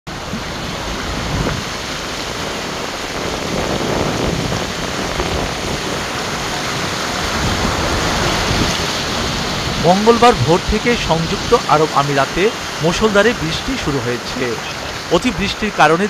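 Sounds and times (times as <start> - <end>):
floodwater rushing: 0.1 - 16.0.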